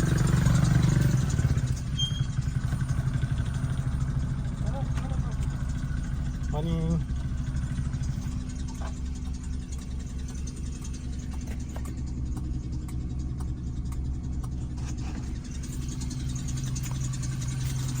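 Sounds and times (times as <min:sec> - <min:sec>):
engine idling unevenly with knocks: 0:00.0 - 0:18.0.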